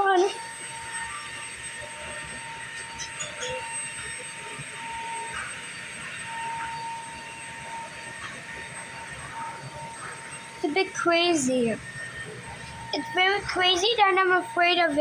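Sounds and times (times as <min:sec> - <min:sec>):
washing machine spin cycle: 0:00.0 - 0:15.0.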